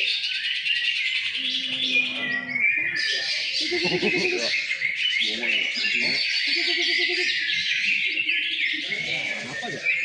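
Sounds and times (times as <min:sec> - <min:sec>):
birds twittering and trilling: 0:00.0 - 0:10.0.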